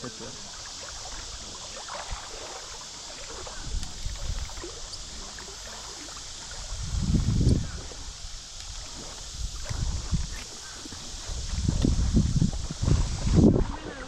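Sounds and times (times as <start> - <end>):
creek hiss: 0.0 - 14.0
wind rumbling on microphone: 0.0 - 14.0.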